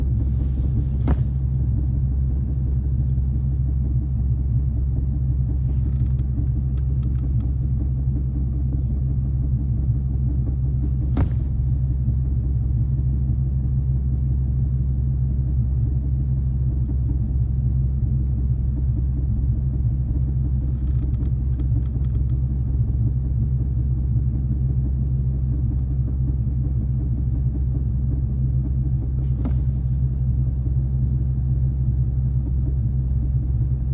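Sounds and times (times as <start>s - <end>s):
car engine whirring and grinding: 0.0s - 12.6s, 18.7s - 33.9s.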